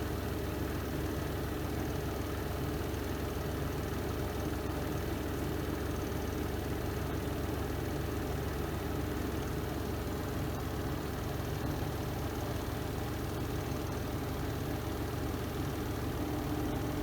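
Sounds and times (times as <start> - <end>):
washing machine spin drone: 0.0 - 17.0.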